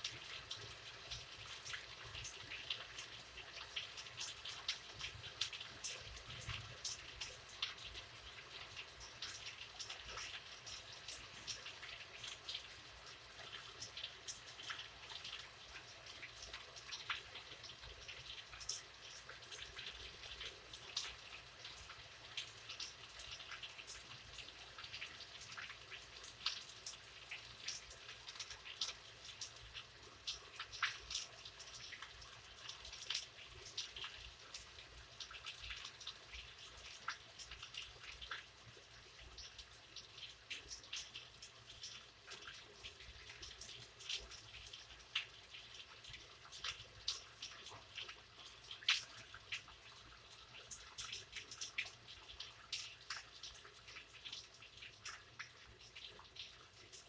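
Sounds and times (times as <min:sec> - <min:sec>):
raindrops striking close by: 0:00.0 - 0:57.0.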